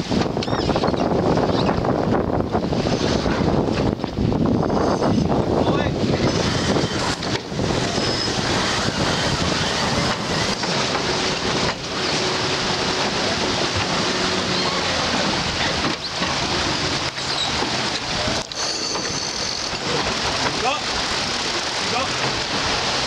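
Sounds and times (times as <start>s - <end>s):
water rushing past boat: 0.0s - 23.0s
wind buffeting microphone: 0.0s - 23.0s.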